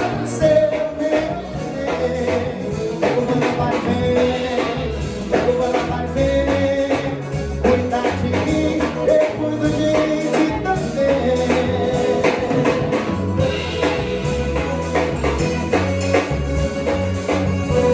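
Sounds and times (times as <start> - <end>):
person singing: 0.0 - 15.3
drum and percussion beat: 0.0 - 17.9
held melody line: 0.0 - 17.9.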